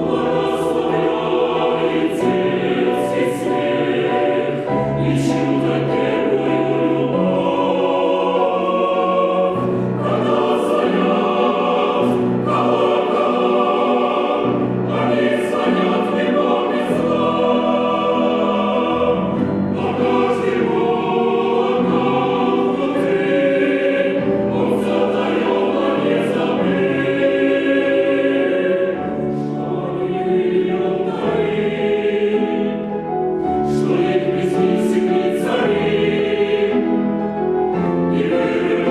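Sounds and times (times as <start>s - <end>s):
chamber choir singing: 0.0s - 38.9s.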